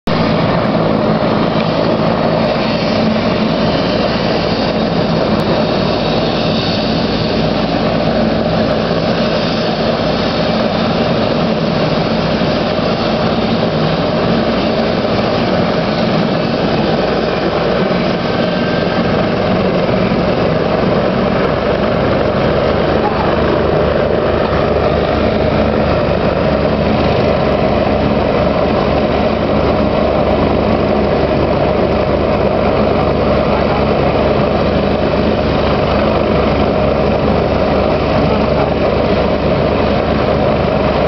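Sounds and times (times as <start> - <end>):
helicopter engines and rotors running: 0.1 - 41.0.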